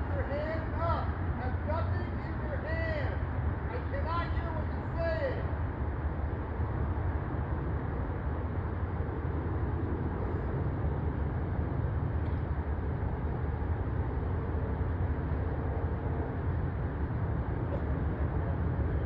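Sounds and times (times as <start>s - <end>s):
low rumbling noise: 0.0s - 19.0s.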